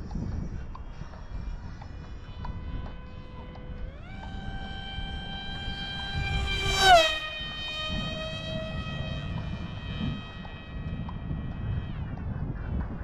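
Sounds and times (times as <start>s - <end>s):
model airplane motor whining: 0.0s - 13.0s
wind rumble on microphone: 0.0s - 13.0s.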